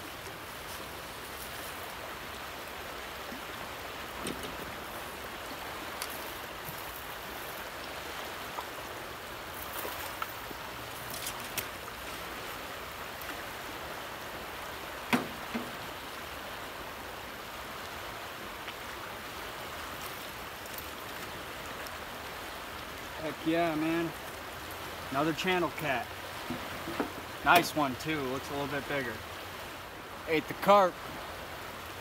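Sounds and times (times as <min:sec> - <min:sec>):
river current rushing: 0:00.0 - 0:32.0.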